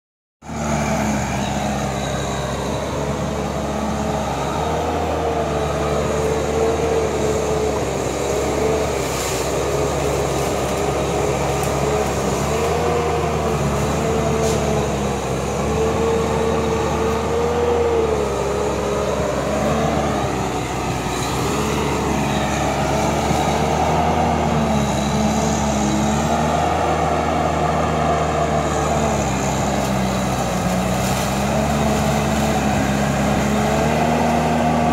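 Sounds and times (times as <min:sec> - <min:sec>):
bulldozer diesel engine running: 0:00.4 - 0:34.9.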